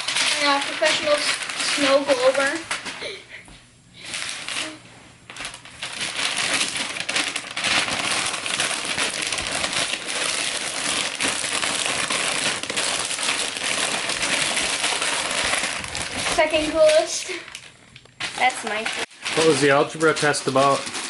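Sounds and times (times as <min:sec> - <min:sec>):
paper crinkling: 0:00.0 - 0:03.1, 0:04.0 - 0:21.0.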